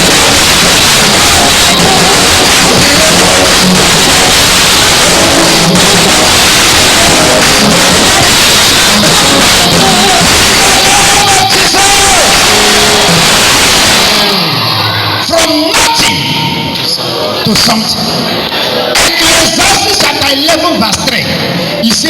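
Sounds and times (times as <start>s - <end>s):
music: 0.0s - 20.0s
loud distorted noise: 0.0s - 22.0s.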